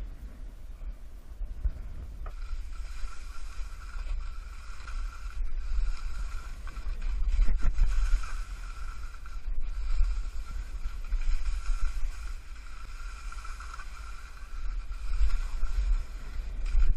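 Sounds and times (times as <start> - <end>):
wind rumbling on microphone: 0.0 - 16.9
skis hissing over snow: 2.3 - 16.9.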